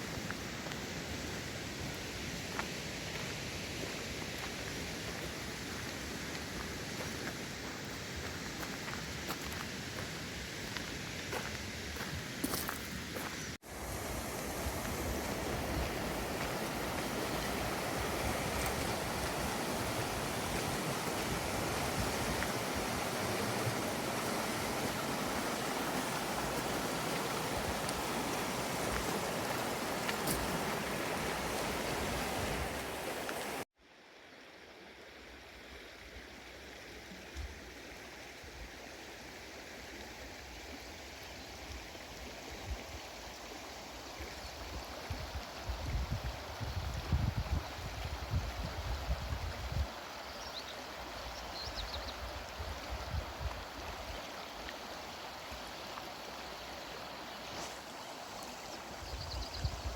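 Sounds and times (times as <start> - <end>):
stream rushing: 0.0 - 33.7, 34.8 - 59.9.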